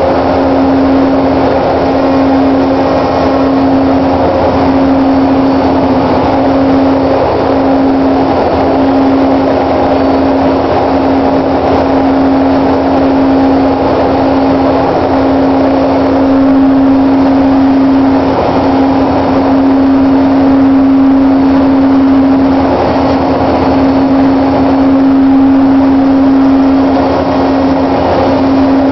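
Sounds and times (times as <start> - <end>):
machinery droning: 0.0 - 28.9.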